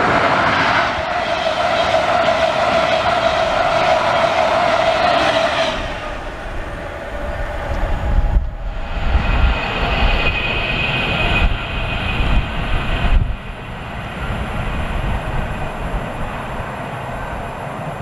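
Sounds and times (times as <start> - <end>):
electric train rumble: 0.0 - 18.0
outdoor background noise: 0.0 - 18.0.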